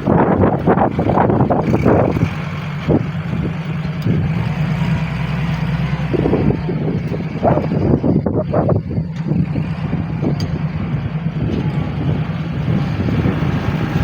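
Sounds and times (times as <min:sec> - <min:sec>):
low engine hum: 0:00.0 - 0:14.0
wind buffeting microphone: 0:00.0 - 0:14.0.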